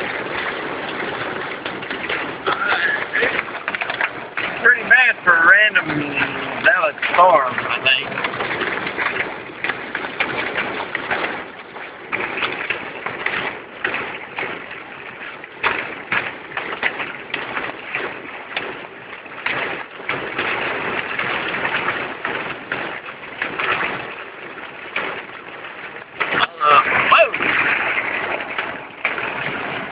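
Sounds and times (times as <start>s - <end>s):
heavy rain on car roof: 0.0s - 29.9s.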